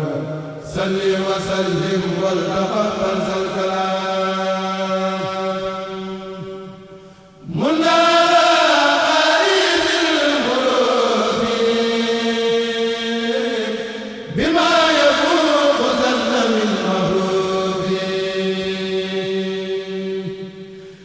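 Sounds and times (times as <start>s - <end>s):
men chanting without instruments: 0.0s - 6.4s, 7.4s - 21.0s.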